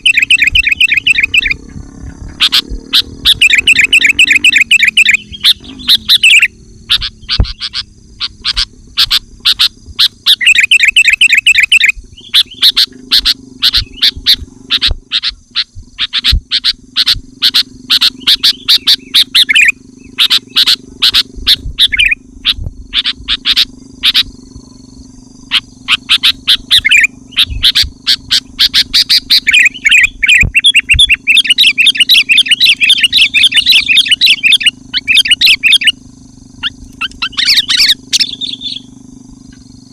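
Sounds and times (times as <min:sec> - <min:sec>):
bird chattering song: 0:00.0 - 0:39.9
steady low hum: 0:00.0 - 0:39.9.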